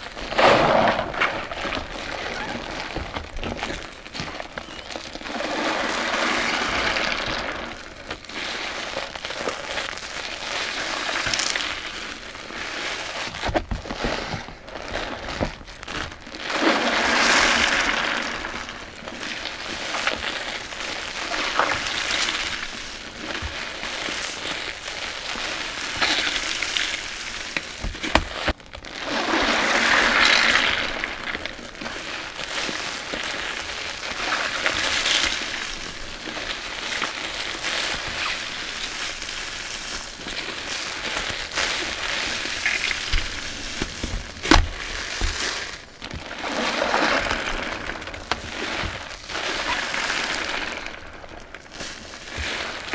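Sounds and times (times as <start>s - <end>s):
foam popping: 0.0s - 52.9s.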